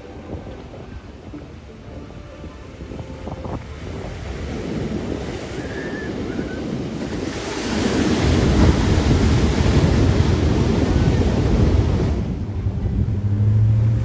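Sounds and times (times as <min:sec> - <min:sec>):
surf washing over rocks: 0:00.0 - 0:14.0.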